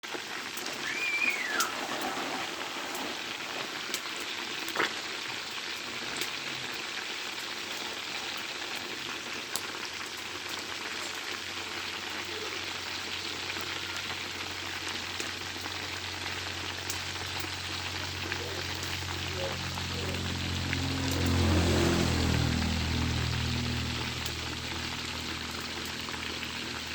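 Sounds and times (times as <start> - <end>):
chicken sizzling in a pan: 0.0 - 26.9.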